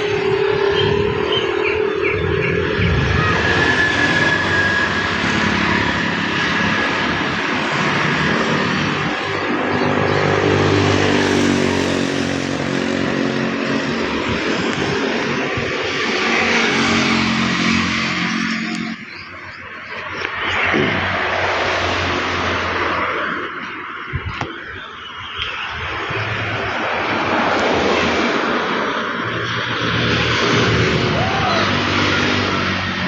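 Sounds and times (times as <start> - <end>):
propeller aircraft engine droning: 0.0 - 33.0.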